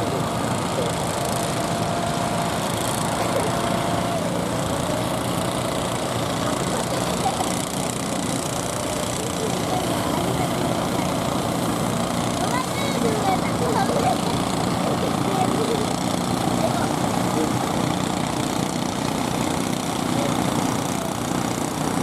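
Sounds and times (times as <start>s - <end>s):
boat engines running: 0.0s - 22.0s.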